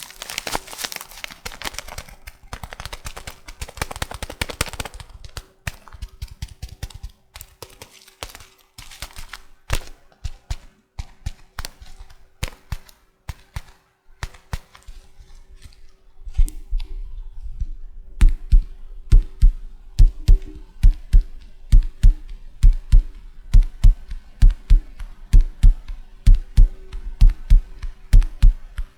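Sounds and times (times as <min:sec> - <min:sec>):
fingers tapping packaging: 0:00.0 - 0:15.0, 0:18.2 - 0:28.9.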